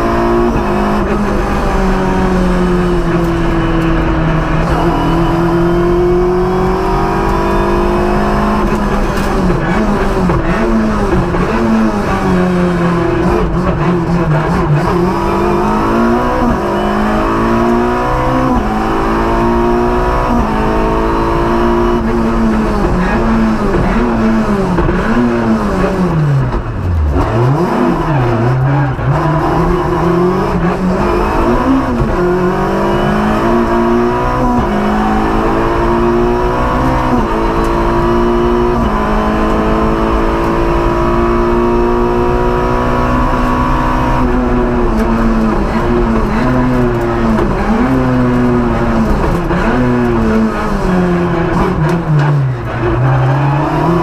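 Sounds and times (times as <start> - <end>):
rally car engine revving hard: 0.0 - 54.0.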